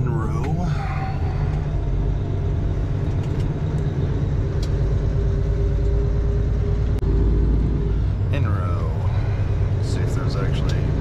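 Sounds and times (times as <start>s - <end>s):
diesel engine rumble: 0.0s - 11.0s
road noise: 0.0s - 11.0s
steady whine: 0.0s - 11.0s.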